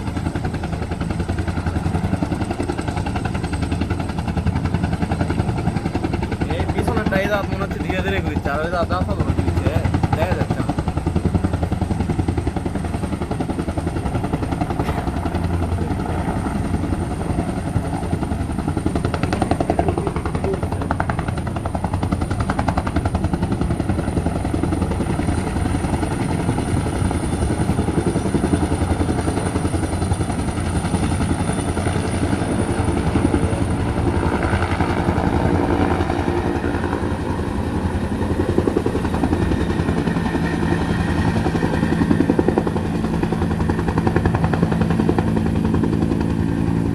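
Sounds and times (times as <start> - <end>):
helicopter rotor beat: 0.0 - 46.9.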